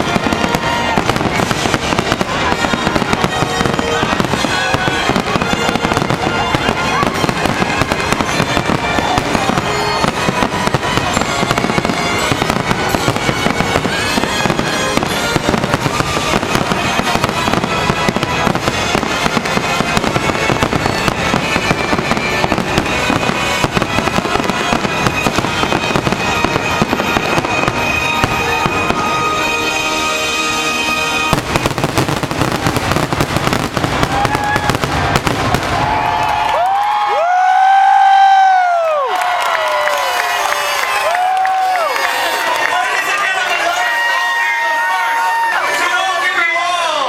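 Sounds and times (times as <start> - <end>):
fireworks bangs and crackles: 0.0 - 46.9
show music: 0.0 - 47.0.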